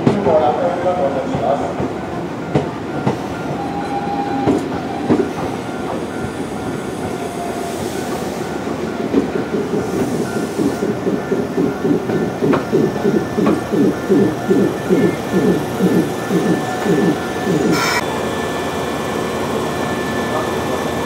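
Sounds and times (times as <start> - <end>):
clickety-clack over rail joints: 0.0 - 7.2, 8.0 - 17.8
train wheels rumbling on rail: 0.0 - 21.0.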